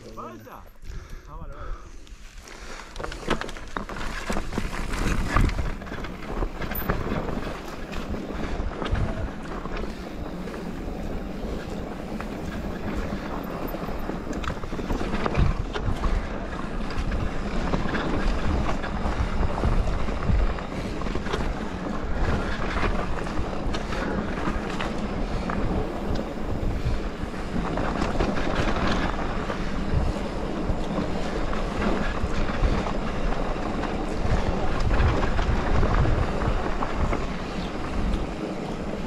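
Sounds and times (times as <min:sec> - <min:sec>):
bike tyres rumbling on dirt: 0:01.8 - 0:39.0
wind buffeting microphone: 0:02.6 - 0:39.0
bike knocks and rattles: 0:02.9 - 0:39.0.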